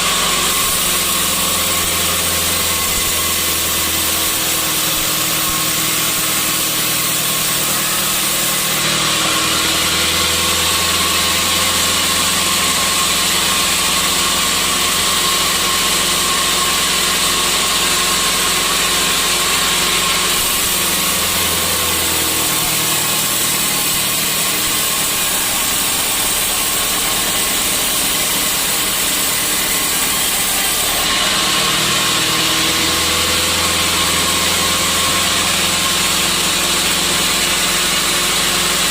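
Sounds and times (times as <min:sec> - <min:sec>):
sawmill saw cutting wood: 0:00.0 - 0:38.9.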